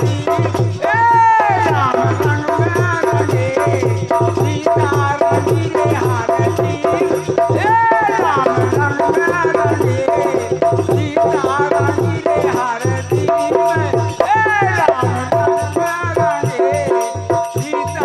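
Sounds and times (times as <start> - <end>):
drum beat: 0.0 - 18.0
rattling hand percussion: 0.0 - 18.0.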